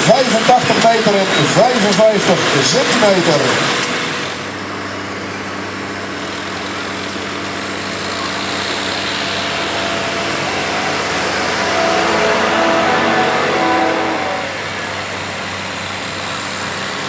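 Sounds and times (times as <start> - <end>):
tractor engine running: 0.0 - 13.8, 14.4 - 17.0.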